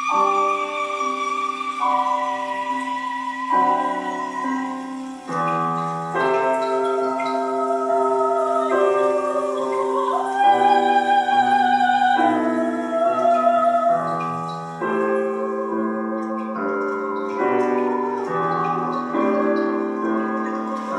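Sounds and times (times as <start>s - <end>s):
piano playing slow chords: 0.0s - 20.9s.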